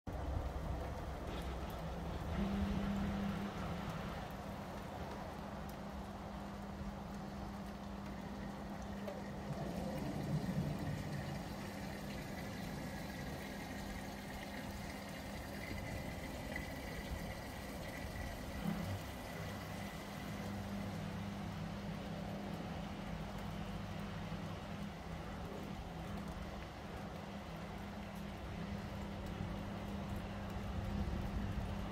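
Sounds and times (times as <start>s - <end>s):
low mechanical hum: 0.1s - 31.9s
outdoor background noise: 0.1s - 31.9s.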